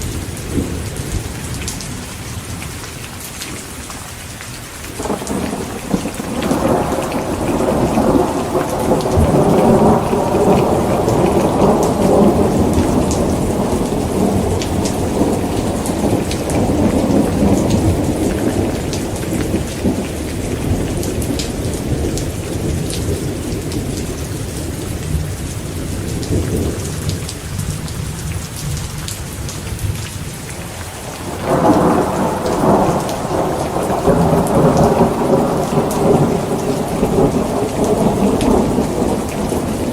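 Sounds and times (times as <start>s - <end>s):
heavy rain falling: 0.0s - 39.9s
rolling thunder: 5.0s - 30.0s, 31.1s - 39.9s.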